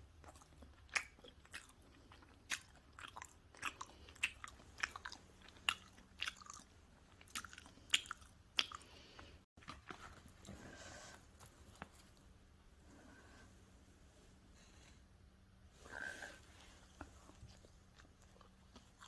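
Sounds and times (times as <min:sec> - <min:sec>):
chewing pizza with crisp crunches: 0:00.0 - 0:12.4, 0:15.9 - 0:19.0.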